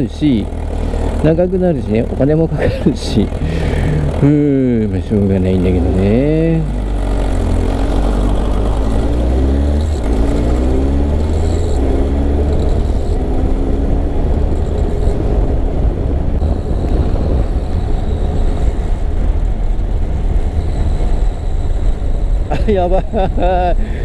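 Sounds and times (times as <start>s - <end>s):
abnormal mechanical engine noise: 0.0s - 24.0s
motorcycle engine running: 0.0s - 24.0s.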